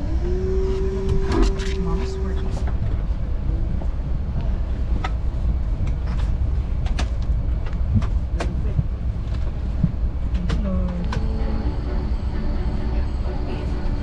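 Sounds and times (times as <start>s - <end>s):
air conditioning running: 0.0s - 14.0s
low cabin rumble: 0.0s - 14.0s.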